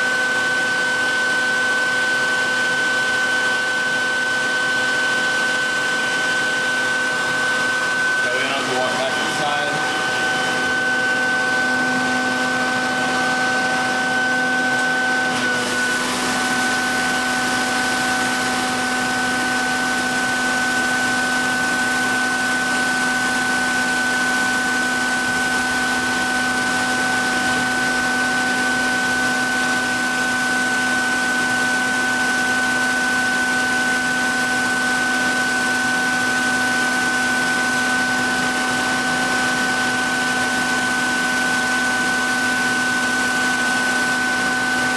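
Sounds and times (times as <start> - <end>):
vacuum motor hum and hiss: 0.1 - 44.9.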